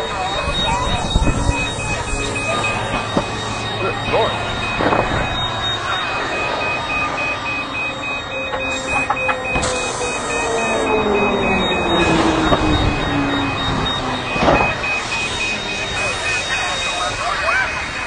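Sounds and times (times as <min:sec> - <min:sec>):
high electronic beep: 0:00.0 - 0:18.0
jet engine winding down: 0:00.0 - 0:18.0
loud airport apron noise: 0:00.0 - 0:18.0.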